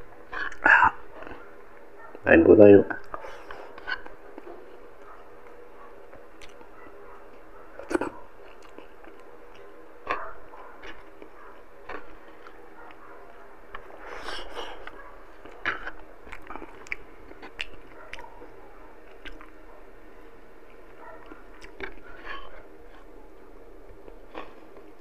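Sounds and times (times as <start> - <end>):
faint steady hum: 0.0 - 25.0
chewing with wet smacks: 2.9 - 19.9, 20.6 - 25.0.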